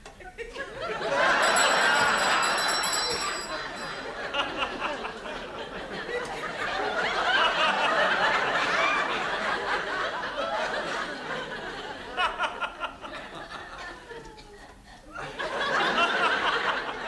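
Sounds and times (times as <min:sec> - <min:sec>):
studio audience laughing: 0:00.2 - 0:17.0.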